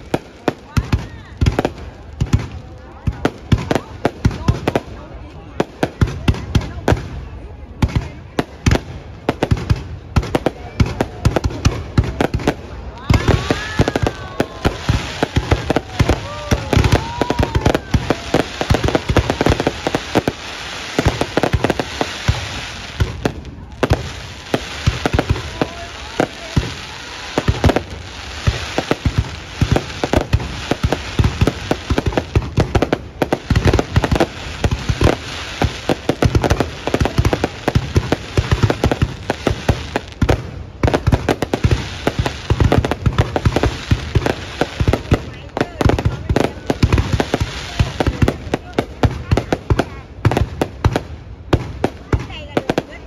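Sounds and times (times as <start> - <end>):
fireworks bangs and booms: 0.0 - 53.0
fireworks crackle: 0.0 - 53.0.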